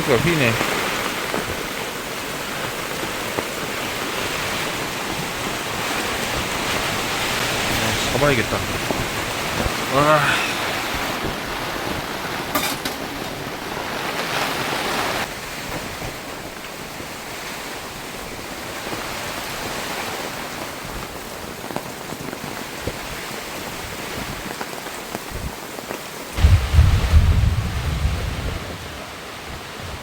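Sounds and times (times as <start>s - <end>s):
heavy rain downpour: 0.0s - 30.0s.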